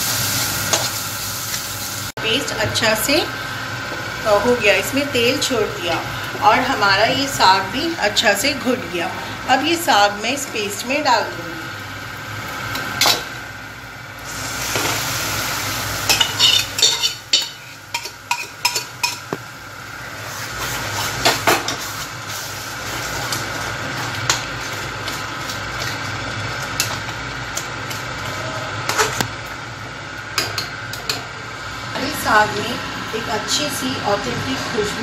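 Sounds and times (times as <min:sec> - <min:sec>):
food sizzling in pot: 0:00.0 - 0:08.8, 0:09.4 - 0:33.6.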